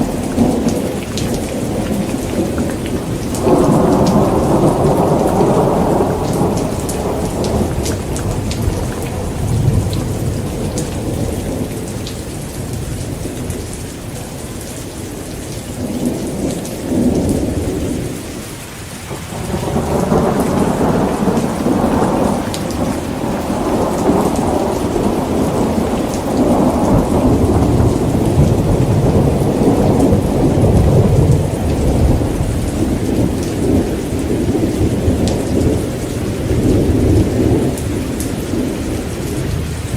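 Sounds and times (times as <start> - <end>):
rolling thunder rumbling: 0.0 - 14.4, 19.1 - 39.9
heavy rain pouring: 0.0 - 39.9.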